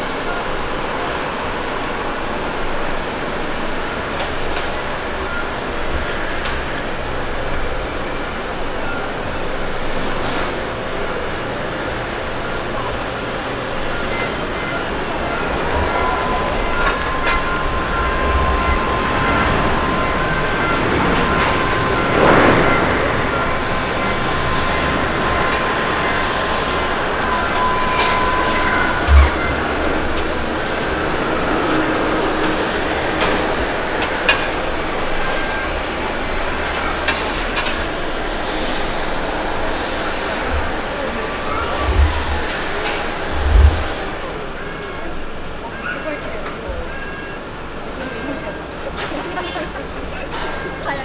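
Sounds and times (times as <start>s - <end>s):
jet engine rush with whine: 0.0s - 51.0s.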